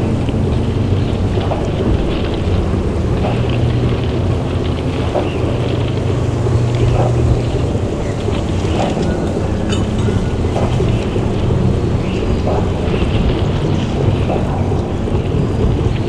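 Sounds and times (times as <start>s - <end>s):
deep hum: 0.0s - 16.0s
faint crackles: 0.0s - 16.0s
low rumbling drone: 0.0s - 16.0s.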